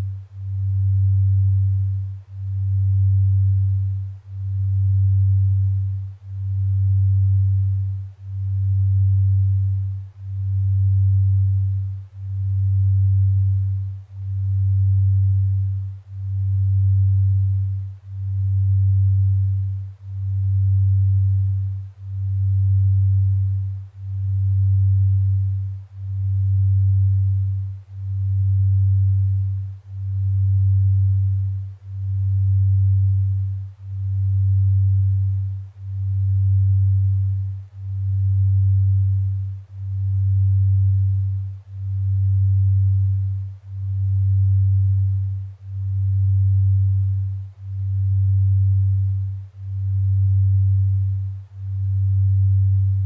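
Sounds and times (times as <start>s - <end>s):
low pulsing pure tone: 0.0s - 53.0s.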